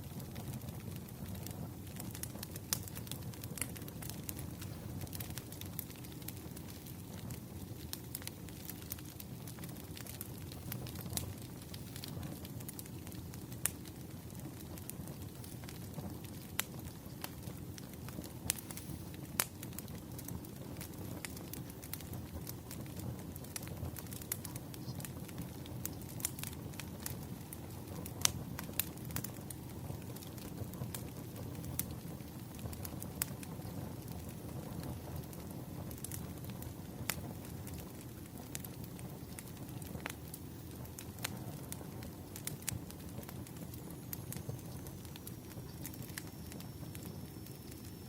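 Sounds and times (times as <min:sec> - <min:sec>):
firewood burning with crackles: 0:00.0 - 0:48.0.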